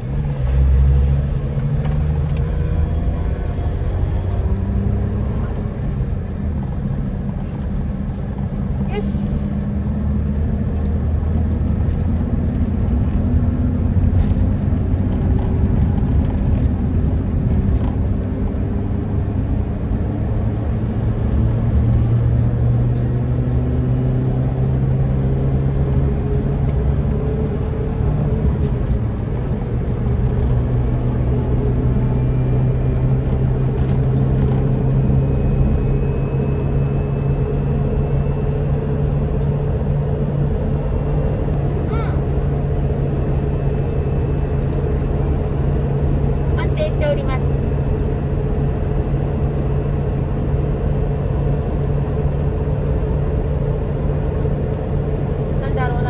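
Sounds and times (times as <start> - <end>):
car engine drone: 0.0 - 56.0.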